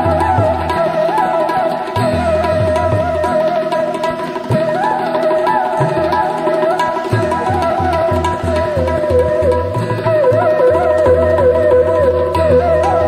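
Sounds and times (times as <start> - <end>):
melody with sliding notes: 0.0 - 13.0
tabla playing: 0.0 - 13.0.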